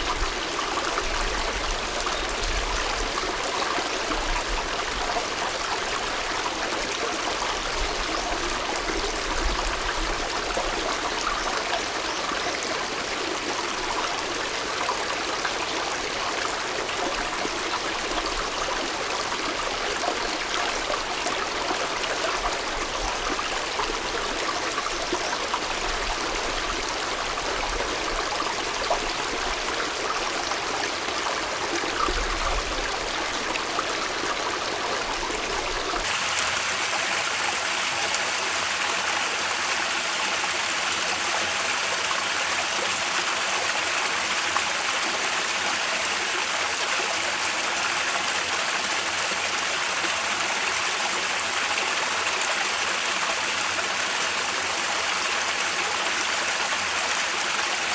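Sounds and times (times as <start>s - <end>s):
stream babbling over rocks: 0.0s - 57.9s.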